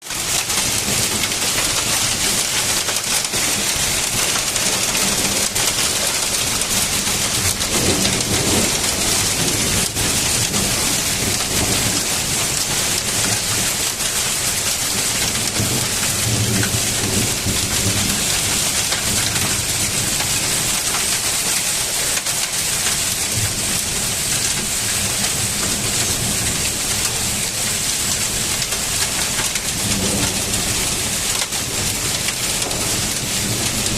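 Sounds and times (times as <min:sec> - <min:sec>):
hailstones pelting down: 0:00.0 - 0:33.9
heavy rain: 0:00.0 - 0:33.9.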